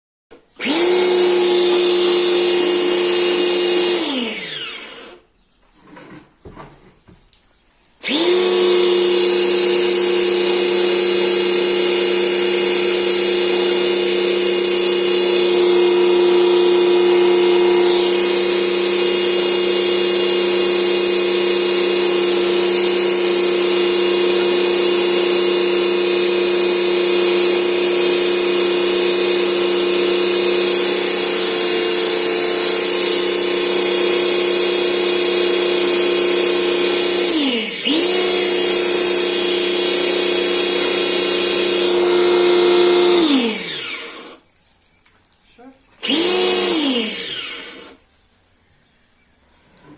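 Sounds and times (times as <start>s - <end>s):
power tool motor whining: 0.5s - 5.2s, 8.0s - 44.4s, 46.0s - 48.0s.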